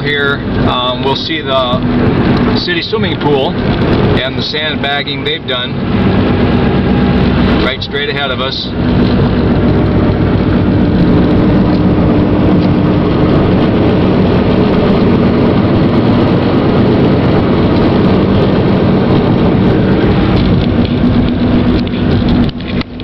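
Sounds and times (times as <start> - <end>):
car engine drone: 0.0 - 23.0
road noise inside car: 0.0 - 23.0.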